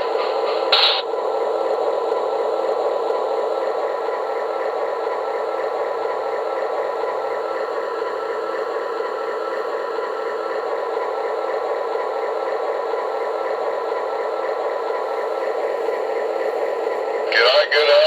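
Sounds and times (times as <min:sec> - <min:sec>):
recorded diesel locomotive engine: 0:00.0 - 0:18.0.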